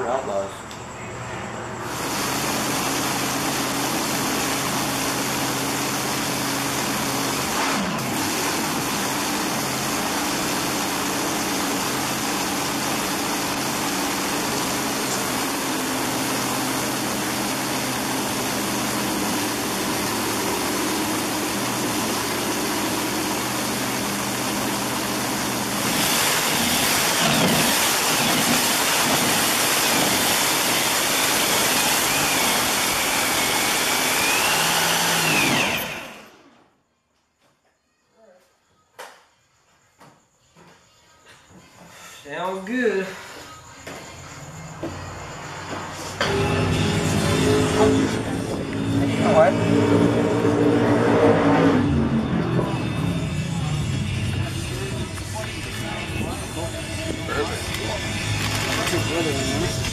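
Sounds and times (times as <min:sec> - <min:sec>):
dragster engine idling and revving: 0:01.8 - 0:36.4, 0:44.4 - 0:59.9.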